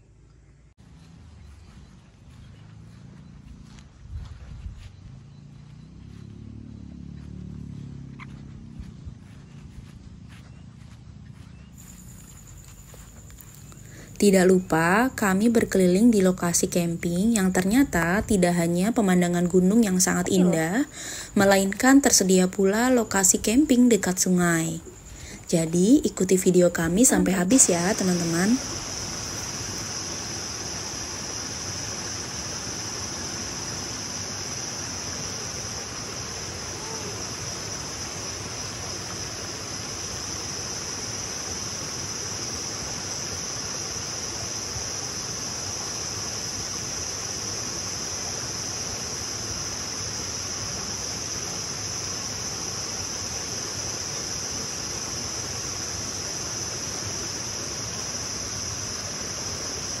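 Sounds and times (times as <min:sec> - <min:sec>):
high-pitched insect chorus: 0:03.2 - 1:00.0.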